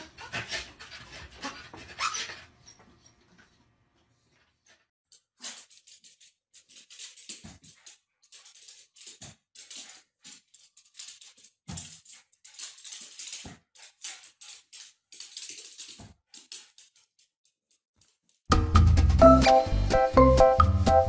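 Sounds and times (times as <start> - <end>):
dog scrabbling on tiles: 0.0 - 3.5, 4.2 - 18.5.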